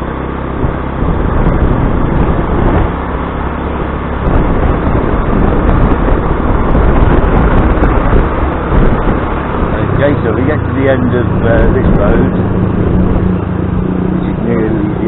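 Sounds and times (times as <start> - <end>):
motor scooter engine: 0.0 - 15.0
steady rushing noise: 0.0 - 15.0.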